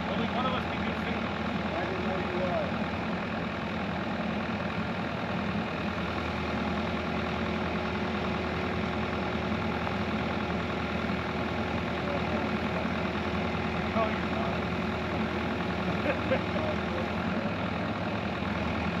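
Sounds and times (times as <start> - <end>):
excavator engine idling: 0.0 - 19.0.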